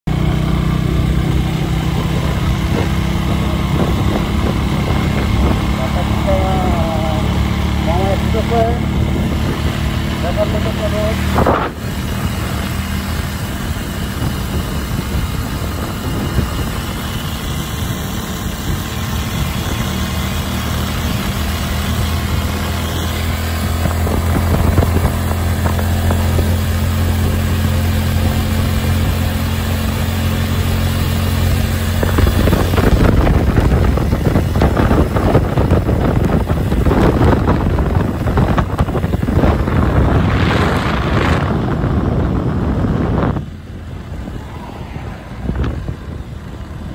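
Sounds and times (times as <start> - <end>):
motorcycle engine cruising: 0.0 - 46.9
wind buffeting microphone: 0.2 - 10.5, 11.1 - 46.9.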